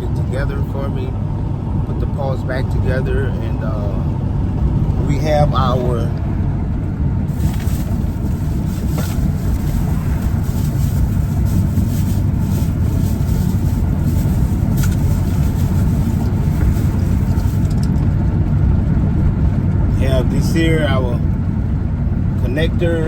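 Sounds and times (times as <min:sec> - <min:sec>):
vehicle rumble from inside cab: 0:00.0 - 0:23.0.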